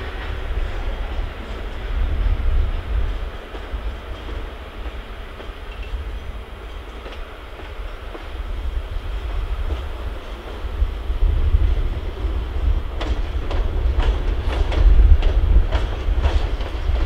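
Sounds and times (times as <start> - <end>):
diesel locomotive engine rumble: 0.0 - 17.0
rail and wheel noise: 0.0 - 17.0.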